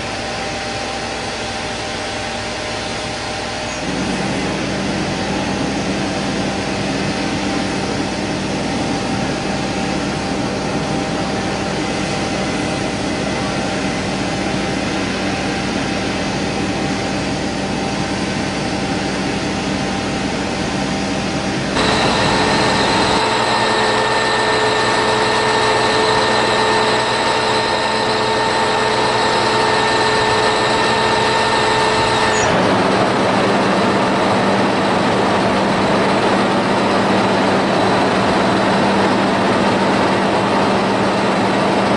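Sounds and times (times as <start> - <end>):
high whine: 0.0 - 41.9
machinery engine running: 0.0 - 41.9.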